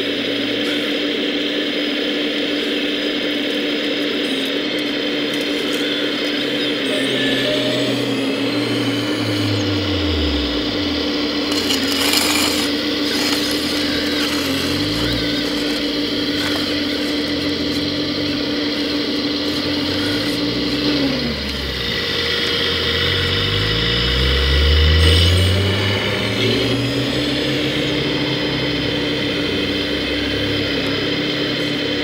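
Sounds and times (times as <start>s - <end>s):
hydraulic pump whine: 0.0s - 32.0s
low motor hums: 0.0s - 32.0s.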